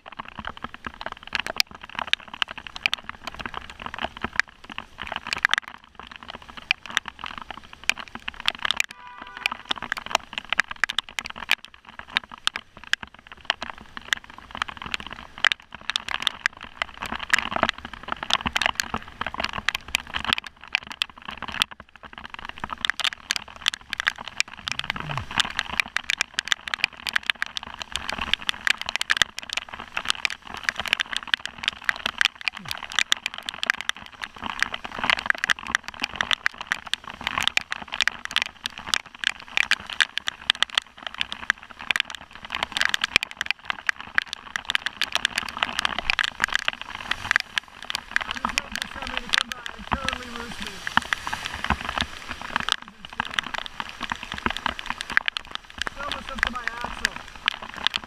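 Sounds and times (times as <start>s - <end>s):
heavy rain on a car: 0.0s - 58.0s.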